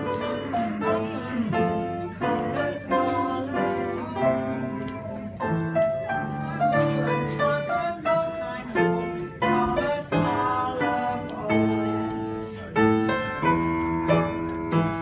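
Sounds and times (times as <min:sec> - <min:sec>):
piano playing a tune: 0:00.0 - 0:15.0.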